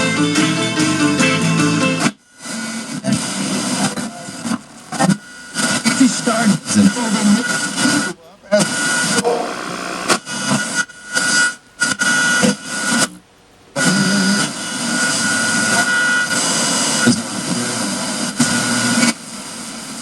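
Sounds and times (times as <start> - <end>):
radio static hiss with whistle: 2.4 - 20.0.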